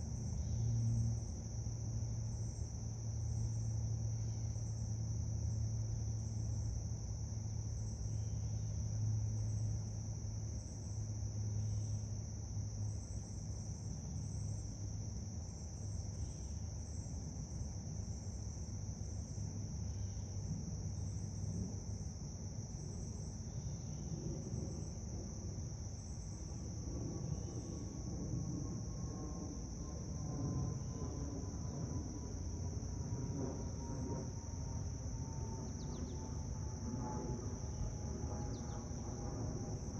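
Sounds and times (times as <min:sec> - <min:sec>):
insect chorus trilling: 0:00.0 - 0:39.9
low hum: 0:00.0 - 0:39.9.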